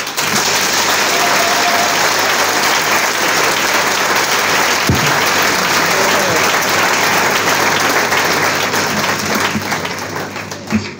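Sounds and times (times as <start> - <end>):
crowd clapping: 0.0 - 10.9.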